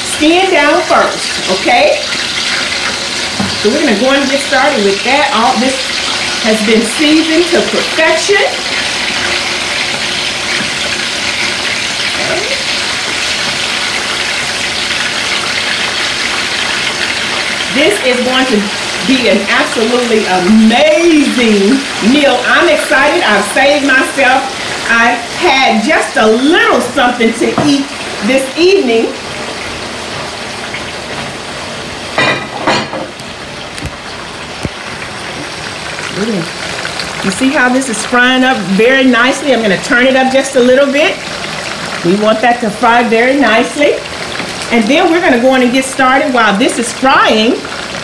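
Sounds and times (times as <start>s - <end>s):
chicken sizzling in a skillet: 0.0s - 48.0s.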